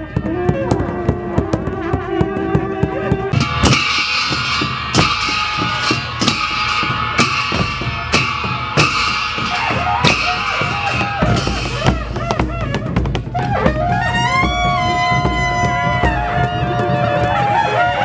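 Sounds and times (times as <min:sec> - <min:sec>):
drum beats: 0:00.0 - 0:18.0.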